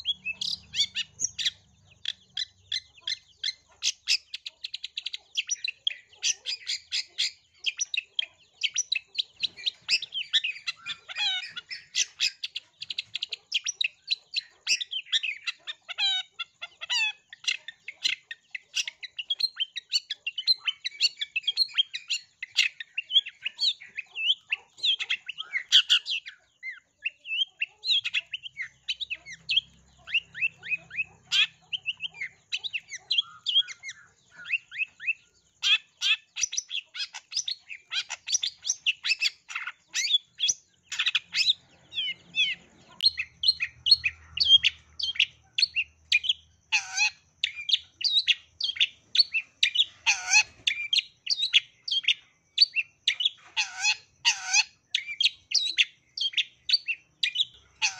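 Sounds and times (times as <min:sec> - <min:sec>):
bird singing fast chirps: 0:00.0 - 0:57.9.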